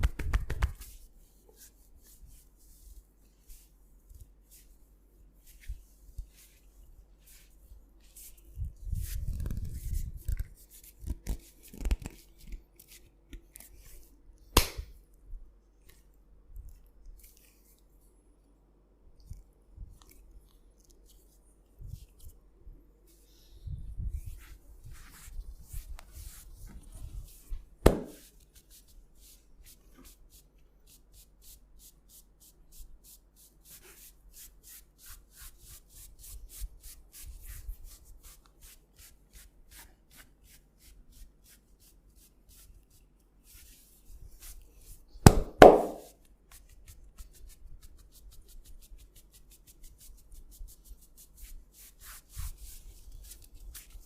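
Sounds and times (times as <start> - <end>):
hands rubbing skin and hair: 0.0 - 15.0, 15.8 - 18.0, 19.2 - 22.4, 23.0 - 54.0.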